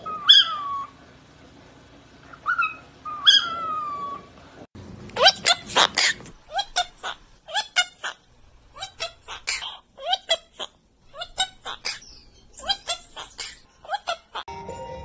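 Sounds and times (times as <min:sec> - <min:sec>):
parrot calling: 0:00.0 - 0:01.0, 0:02.3 - 0:04.4, 0:05.2 - 0:14.5.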